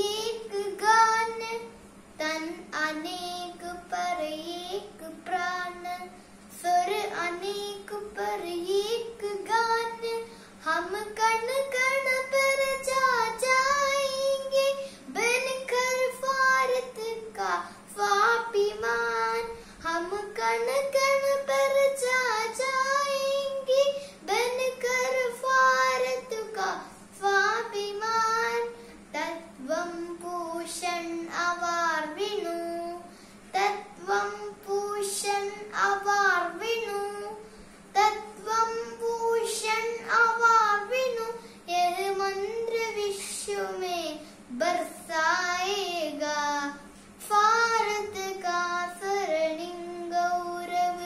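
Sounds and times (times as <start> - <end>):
girl singing unaccompanied: 0.0 - 51.0.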